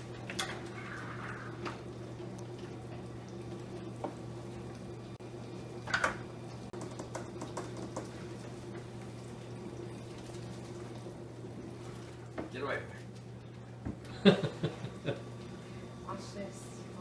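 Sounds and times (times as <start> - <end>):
pot bubbling: 0.0 - 17.0.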